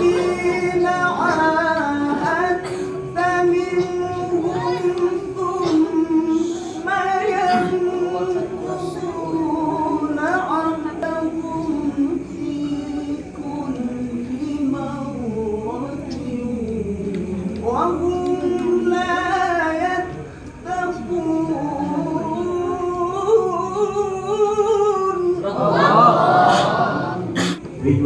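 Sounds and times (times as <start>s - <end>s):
melodic recitation: 0.0s - 27.2s.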